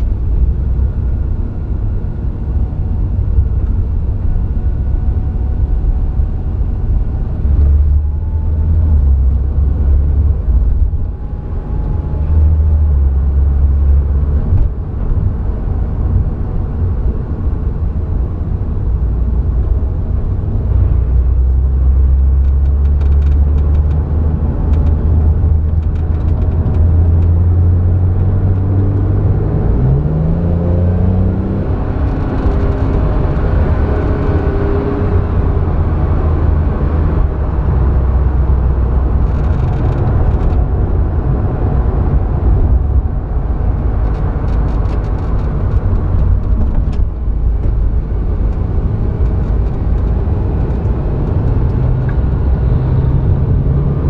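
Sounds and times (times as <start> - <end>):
car engine droning in cabin: 0.0 - 54.0
road noise: 0.0 - 54.0.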